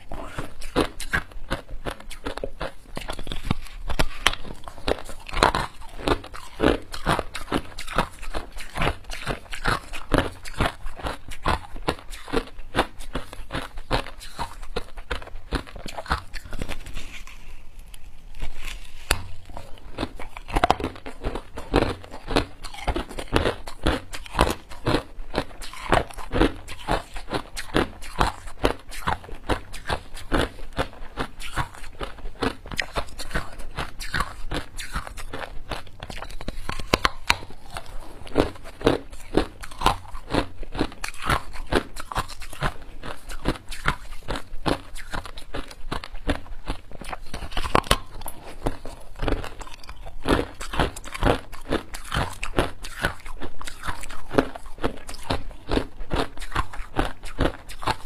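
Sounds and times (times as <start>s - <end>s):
ice crunching while chewed: 0.0s - 58.0s.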